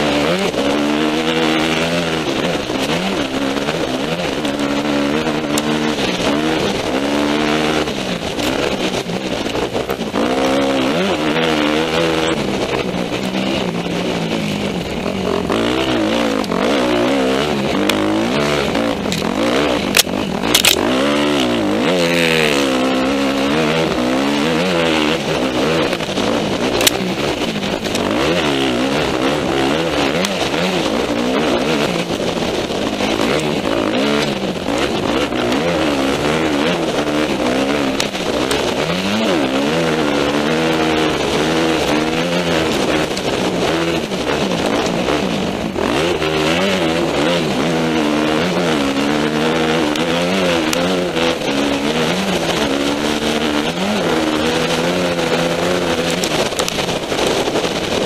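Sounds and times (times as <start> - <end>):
dirt bike engine revving: 0.0 - 58.0
wind rush: 0.0 - 58.0.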